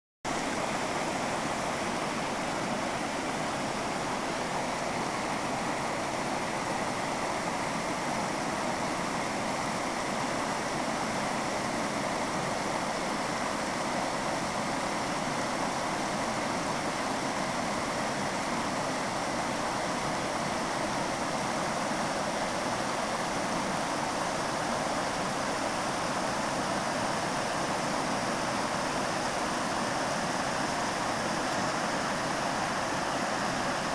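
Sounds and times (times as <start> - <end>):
stream water rushing over weir: 0.3 - 33.9.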